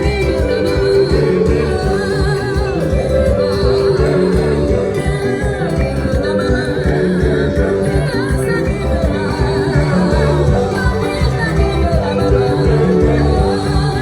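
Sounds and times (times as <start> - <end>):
band music with singing: 0.0 - 14.0
pulsing bass beat: 0.0 - 14.0.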